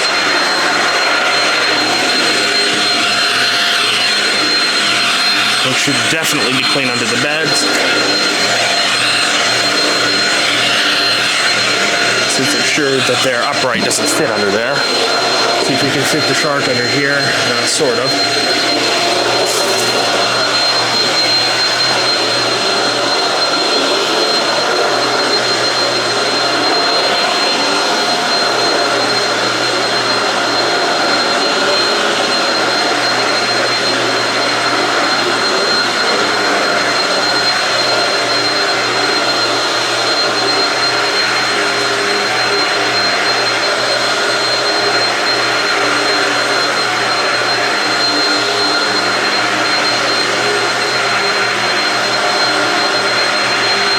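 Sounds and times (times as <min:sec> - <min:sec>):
high-pitched vacuum whine: 0:00.0 - 0:53.9
vacuum cleaner running on carpet: 0:00.0 - 0:53.9.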